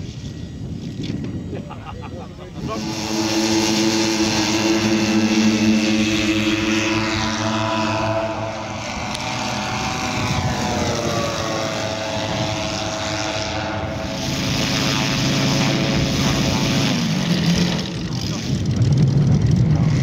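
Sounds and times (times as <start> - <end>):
model aircraft engines droning: 0.0 - 20.0
lower model engine note: 2.6 - 20.0.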